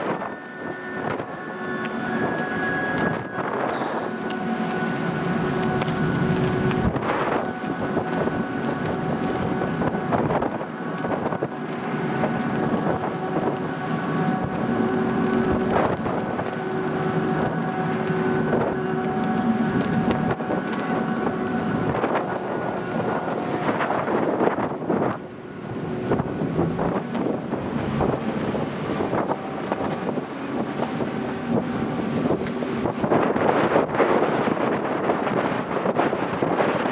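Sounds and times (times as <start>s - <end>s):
ship engines humming: 0.0s - 36.9s
wind gusting on microphone: 0.0s - 36.9s.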